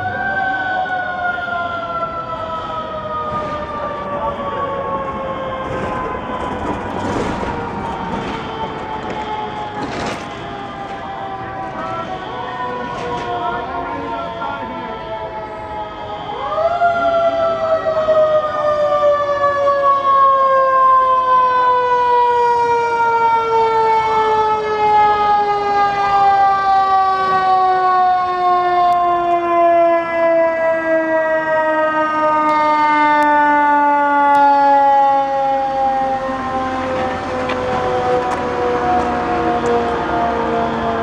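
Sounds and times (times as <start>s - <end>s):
mechanical siren winding down: 0.0s - 41.0s.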